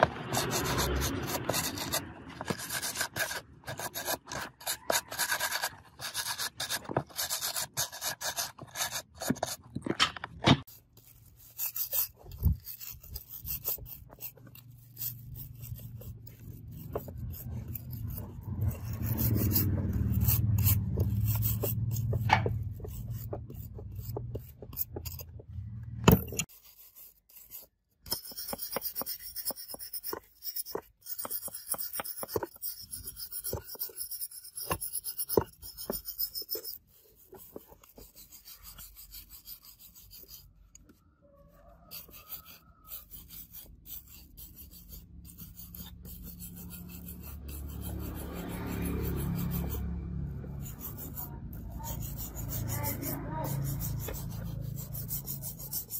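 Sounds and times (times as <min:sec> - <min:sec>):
wire brush scraping rusty steel: 0:00.0 - 0:09.7, 0:10.6 - 0:40.8, 0:41.4 - 0:55.9.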